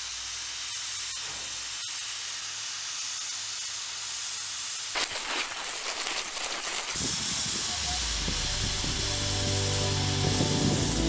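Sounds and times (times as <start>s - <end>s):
fire hose spraying water: 0.0s - 11.0s.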